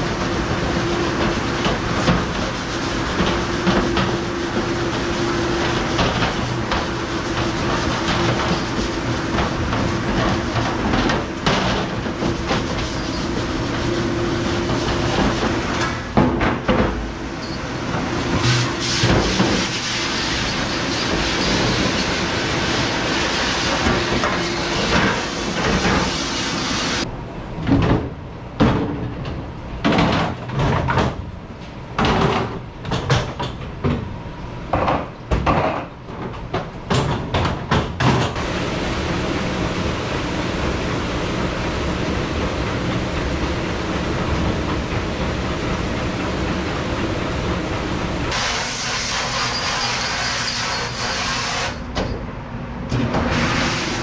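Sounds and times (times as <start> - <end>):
dish machine washing: 0.0 - 27.1, 36.9 - 52.2, 52.9 - 54.0.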